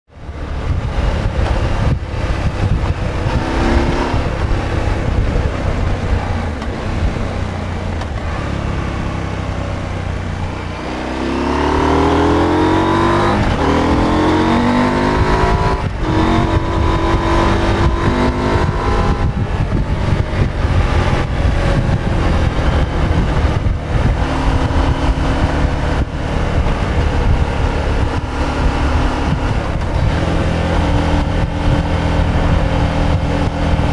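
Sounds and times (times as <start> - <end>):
motorcycle engine accelerating: 0.1 - 33.9.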